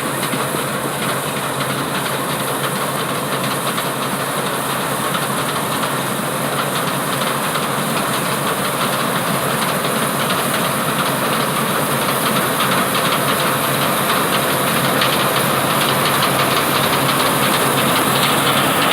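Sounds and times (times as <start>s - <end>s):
combine harvester running: 0.0s - 18.9s.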